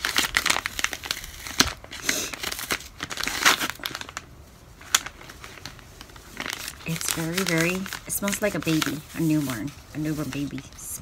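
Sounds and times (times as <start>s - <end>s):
plastic packet crinkling: 0.0s - 11.0s.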